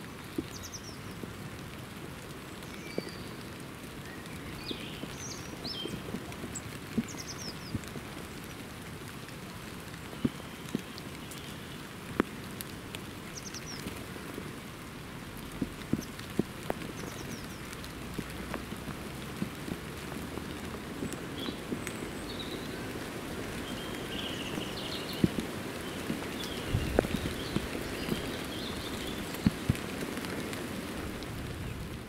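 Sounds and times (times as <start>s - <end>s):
light rain pattering: 0.0s - 32.0s
heavy water drips: 0.1s - 32.0s.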